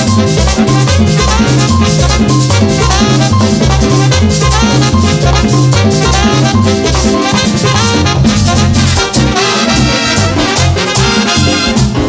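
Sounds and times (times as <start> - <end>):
congas: 0.0 - 12.0
electric bass: 0.0 - 12.0
saxophones: 0.0 - 12.0
tambora drum: 0.0 - 12.0
trumpets: 0.4 - 12.0.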